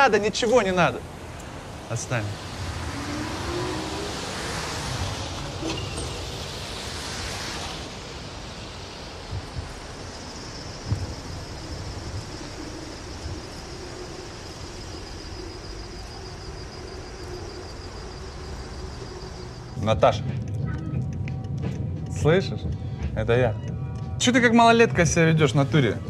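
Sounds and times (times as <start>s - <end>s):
faint high whine: 0.0s - 21.0s
steady rushing hiss: 0.0s - 26.0s.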